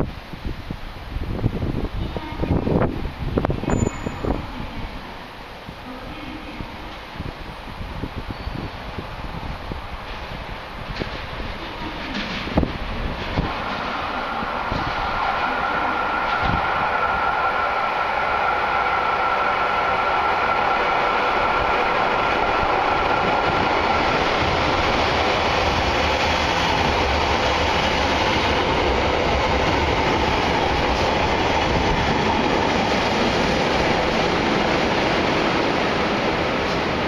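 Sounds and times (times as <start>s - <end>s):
train wheel and rail noise: 0.0s - 37.0s.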